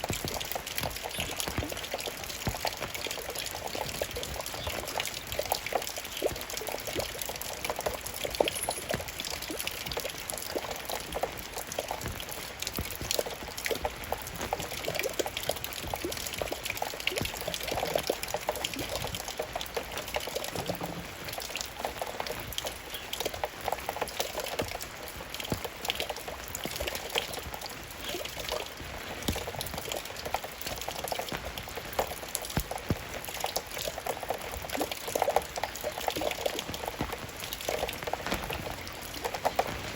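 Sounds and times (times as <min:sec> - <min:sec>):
running water: 0:00.0 - 0:39.9
steady rain: 0:00.0 - 0:39.9.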